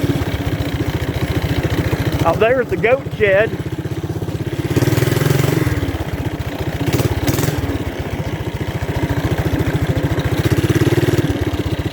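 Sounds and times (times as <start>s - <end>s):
small engine running: 0.0s - 11.9s.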